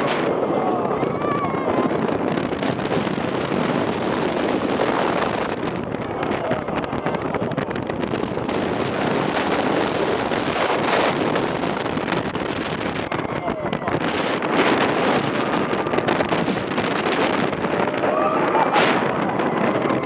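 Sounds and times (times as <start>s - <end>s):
roller coaster train rattling: 0.0s - 20.0s
wind rushing over microphone: 0.0s - 20.0s.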